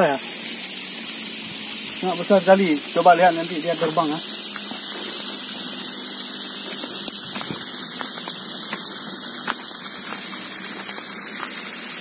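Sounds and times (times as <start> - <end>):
high-pitched forest hiss: 0.0 - 12.0.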